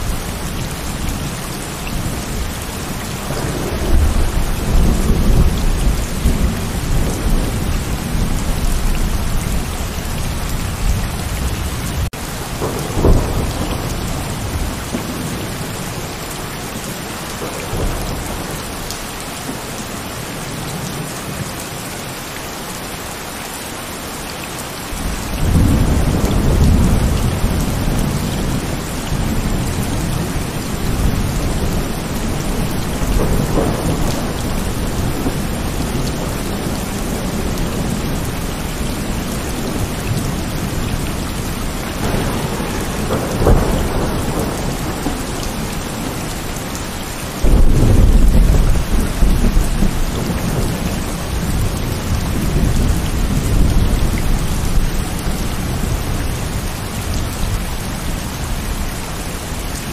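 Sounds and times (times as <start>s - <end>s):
rolling thunder: 0.0s - 16.1s, 25.0s - 57.6s
heavy rain falling: 0.0s - 59.9s.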